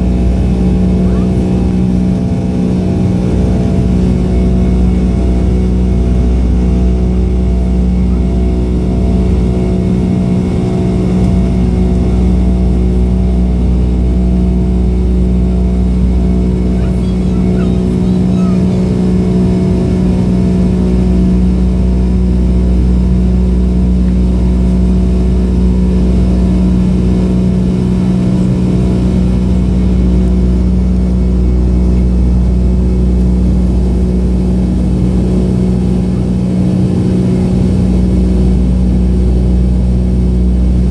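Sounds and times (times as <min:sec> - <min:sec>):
jet engine drone in cabin: 0:00.0 - 0:40.9
low airflow rumble: 0:00.0 - 0:40.9.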